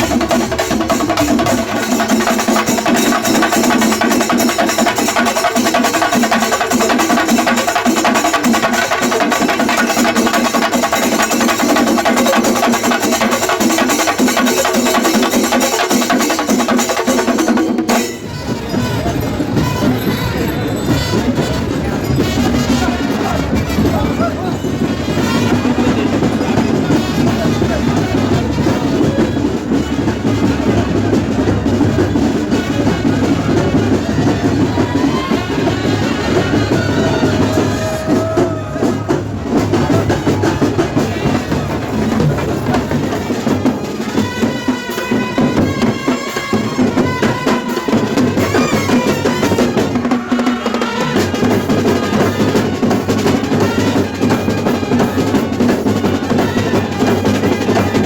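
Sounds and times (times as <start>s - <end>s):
drum-led festival band music: 0.0s - 58.0s.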